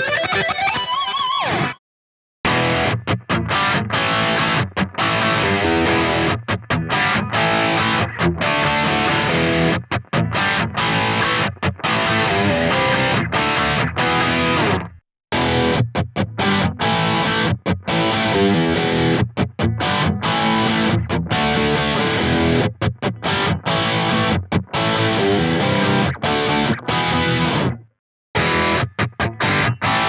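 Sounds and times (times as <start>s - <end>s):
distorted electric guitar riffs: 0.0s - 1.8s, 2.5s - 30.0s.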